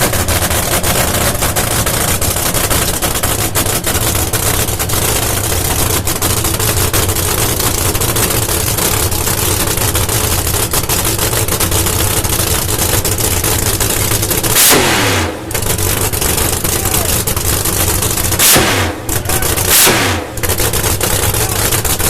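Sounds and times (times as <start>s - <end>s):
drag car engine idling cackle: 0.0s - 22.0s.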